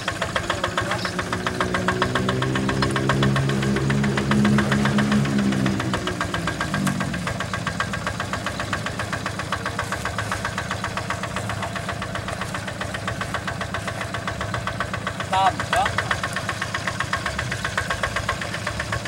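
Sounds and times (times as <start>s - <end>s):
diesel engine knocking idle: 0.0s - 19.0s.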